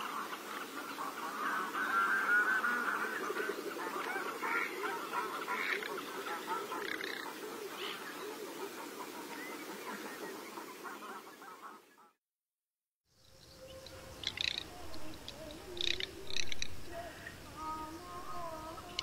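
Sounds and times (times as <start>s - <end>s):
ducks calling: 0.0s - 12.2s, 13.4s - 19.0s.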